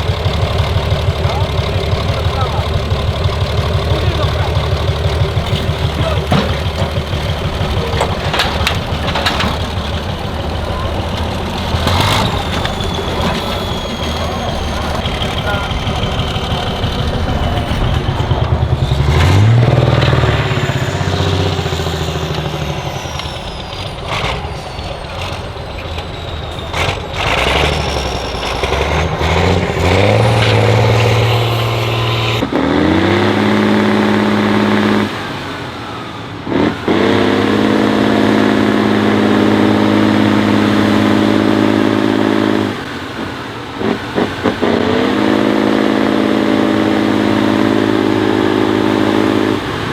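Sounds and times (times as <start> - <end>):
truck engine revving hard: 0.0 - 49.9.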